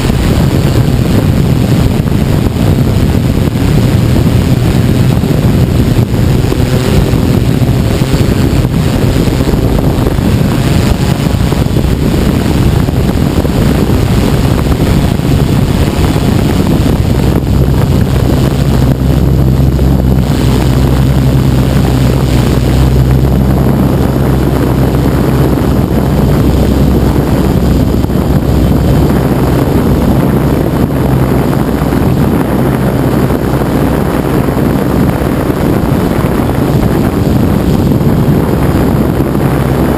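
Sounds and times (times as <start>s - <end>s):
drone motors and propellers humming: 0.0s - 39.9s.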